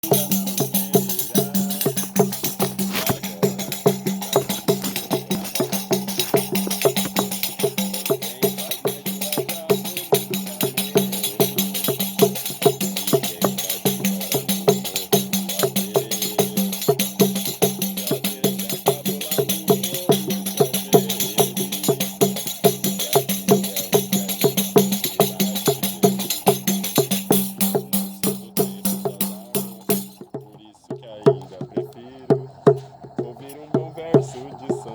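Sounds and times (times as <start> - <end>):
fast busy percussion: 0.0 - 34.9.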